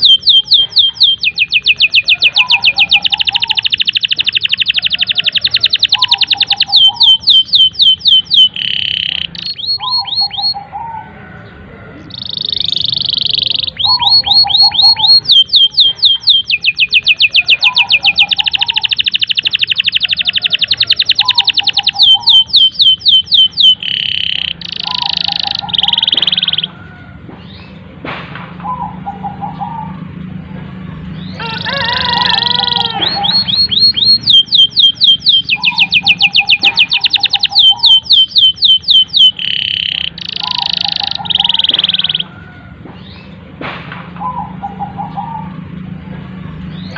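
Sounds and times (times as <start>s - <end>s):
canary singing trills: 0.0s - 28.0s, 28.6s - 43.5s, 44.2s - 46.9s.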